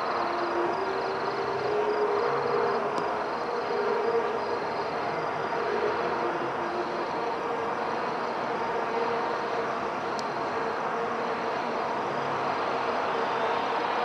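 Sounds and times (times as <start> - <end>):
city traffic hum: 0.0 - 14.0.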